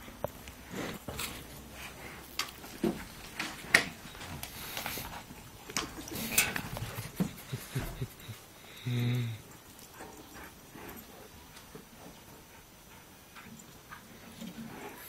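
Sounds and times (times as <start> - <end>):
animals scuffling on dirt floor: 0.0 - 8.8, 9.4 - 15.0.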